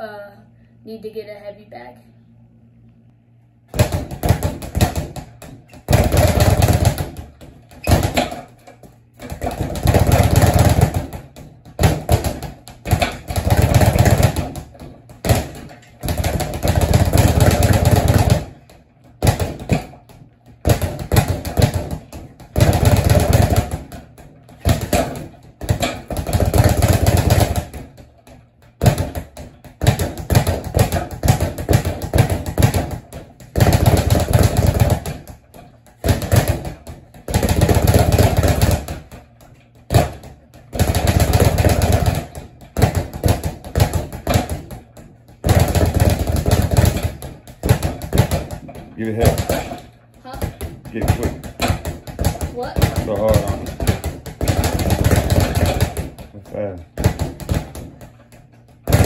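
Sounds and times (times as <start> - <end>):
speed bag drumming: 3.7 - 59.0.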